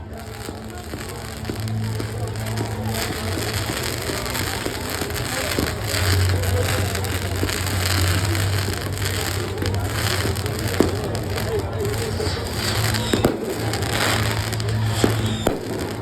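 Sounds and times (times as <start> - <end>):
fireworks crackling: 0.0 - 16.0
firework bang: 0.4 - 16.0.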